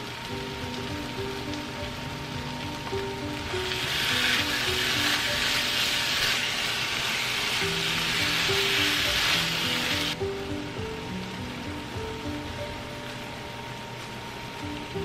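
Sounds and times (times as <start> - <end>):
light background melody: 0.0 - 15.0
meat sauce sizzling in pan: 0.0 - 15.0.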